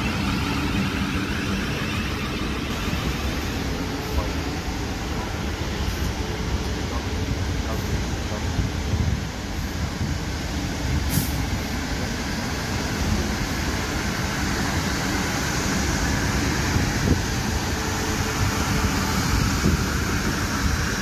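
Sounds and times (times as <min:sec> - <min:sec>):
electric train running past: 0:00.0 - 0:21.0.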